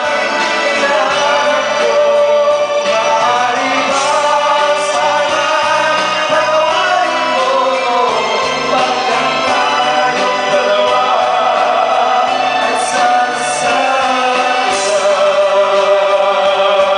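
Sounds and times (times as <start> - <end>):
backing track music: 0.0 - 16.9
duet singing: 0.0 - 16.9.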